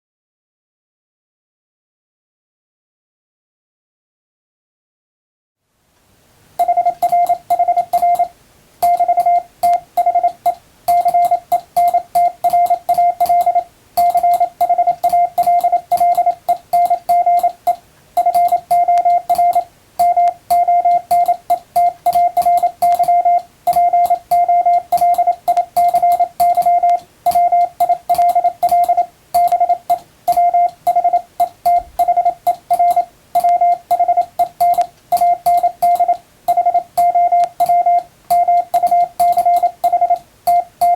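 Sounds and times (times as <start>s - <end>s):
morse code beeps: 6.6s - 40.9s.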